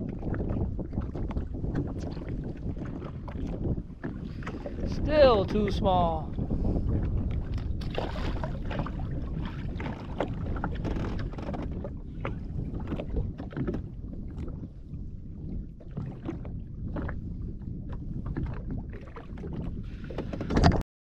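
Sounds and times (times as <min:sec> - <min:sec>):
water lapping against hull: 0:00.0 - 0:20.8
wind buffeting microphone: 0:00.0 - 0:20.8.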